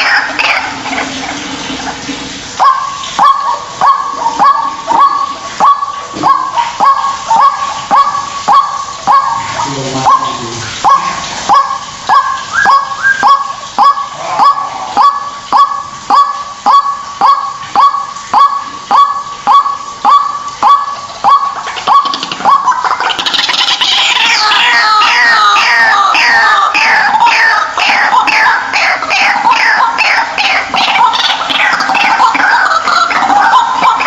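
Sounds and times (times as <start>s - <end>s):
waterhen calling: 0.0s - 34.0s.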